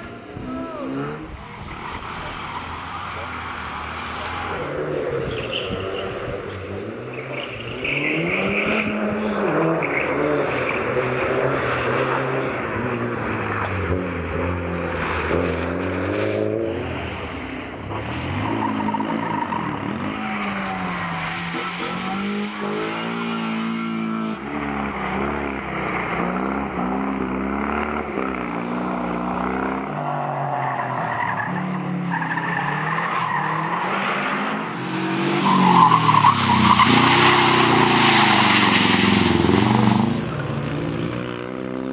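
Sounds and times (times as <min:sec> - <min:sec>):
tyres squealing and skidding: 0:00.0 - 0:26.9, 0:29.8 - 0:40.5
rally car engines revving: 0:00.0 - 0:41.9.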